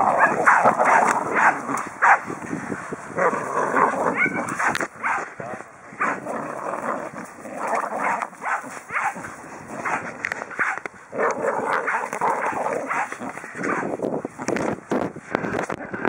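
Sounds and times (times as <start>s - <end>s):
dogs growling while playing: 0.0s - 14.2s.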